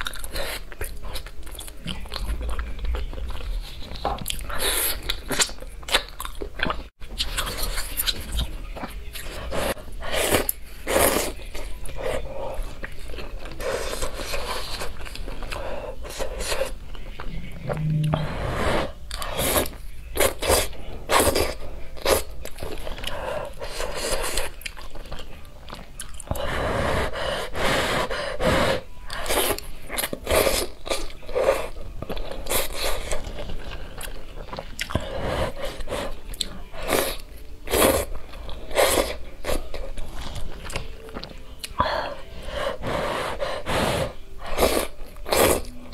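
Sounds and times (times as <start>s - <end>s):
chewing: 0.0s - 18.2s, 19.0s - 26.5s, 29.1s - 42.4s.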